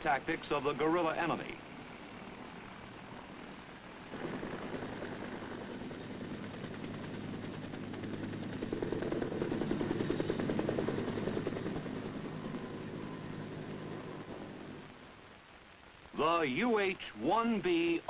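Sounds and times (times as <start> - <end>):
helicopter rotor and engine: 0.1 - 15.0.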